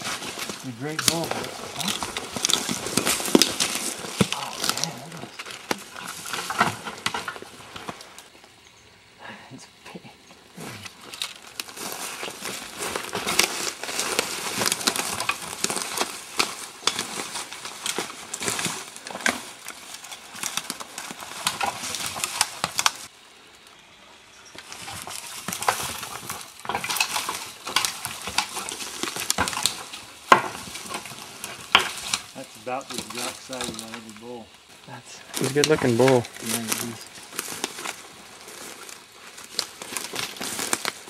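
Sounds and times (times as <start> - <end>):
dry twigs crackling and snapping: 0.0 - 8.6, 10.8 - 23.8, 24.6 - 41.0.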